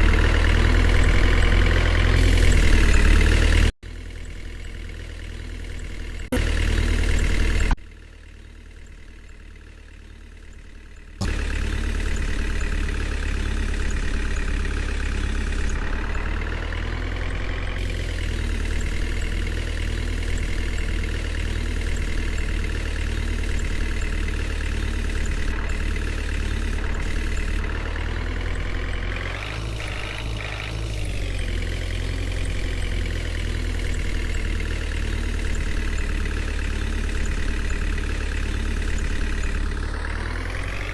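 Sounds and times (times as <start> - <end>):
heavy vehicle engine idling and revving: 0.0 - 40.9.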